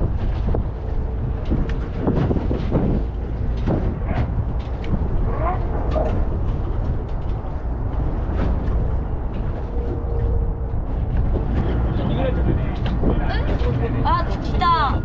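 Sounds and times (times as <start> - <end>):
knocks and splashes: 0.0 - 13.9
low drone: 0.0 - 15.0
wind rumbling on microphone: 0.0 - 15.0.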